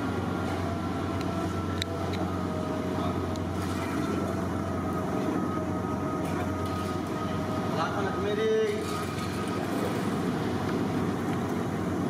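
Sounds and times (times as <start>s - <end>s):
low rumbling hum: 0.0s - 12.0s.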